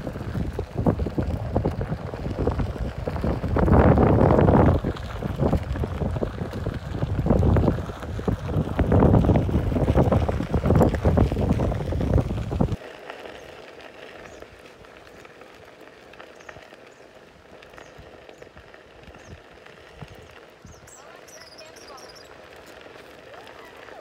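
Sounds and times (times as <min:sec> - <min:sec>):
wind buffeting microphone: 0:00.0 - 0:12.8, 0:16.4 - 0:24.0
faint crackles: 0:00.0 - 0:24.0.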